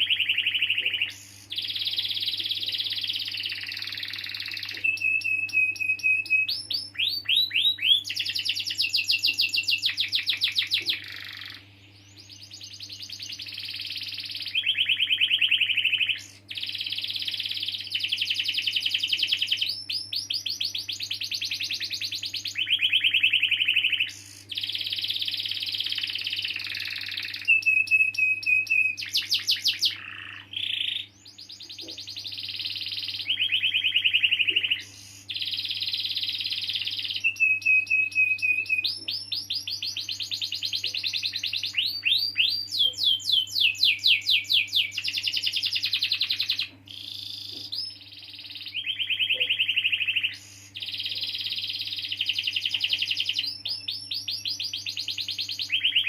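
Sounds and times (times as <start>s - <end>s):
canary singing trills: 0.0s - 56.0s
faint low hum: 0.0s - 56.0s.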